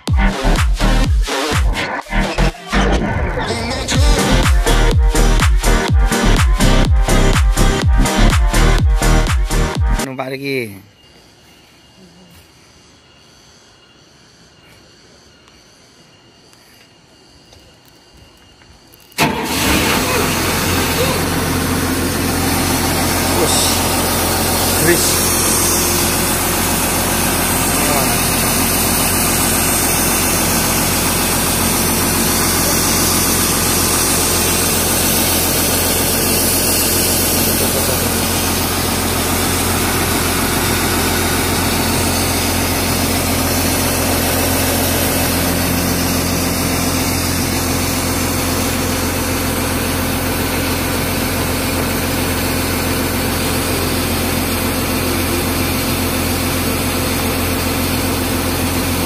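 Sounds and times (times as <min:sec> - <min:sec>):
excavator diesel engine running: 0:00.0 - 0:10.6, 0:19.1 - 0:59.0.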